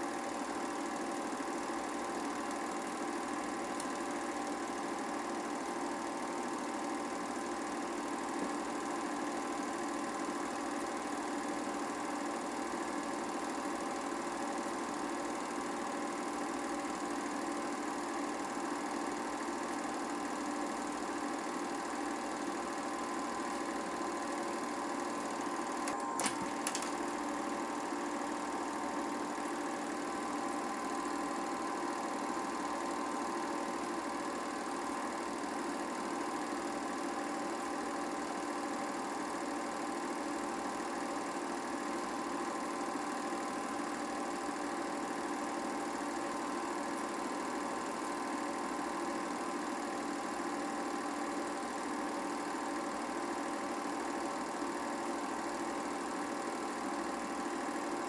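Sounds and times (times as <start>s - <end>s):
film projector whirring and clattering: 0.0s - 58.0s.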